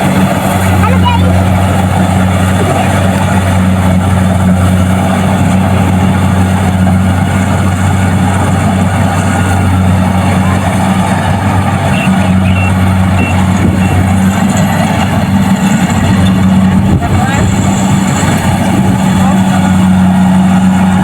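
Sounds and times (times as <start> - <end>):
combine harvester diesel engine: 0.0 - 21.0.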